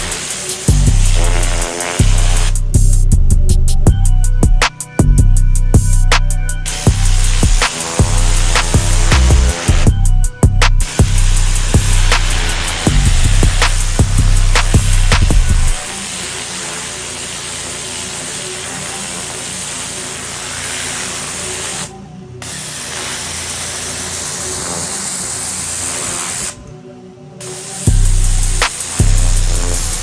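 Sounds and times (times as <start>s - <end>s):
pressure washer spraying: 0.0s - 26.7s, 27.4s - 30.0s
background music: 0.0s - 30.0s.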